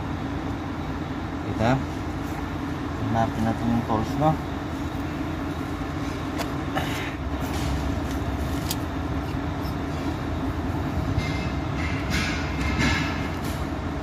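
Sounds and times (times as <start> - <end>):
machinery rumbling: 0.0 - 14.0.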